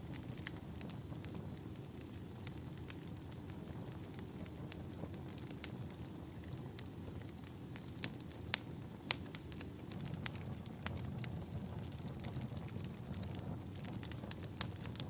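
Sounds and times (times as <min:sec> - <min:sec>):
fire rumbling: 0:00.0 - 0:15.0
sharp pops of fire: 0:00.0 - 0:15.0.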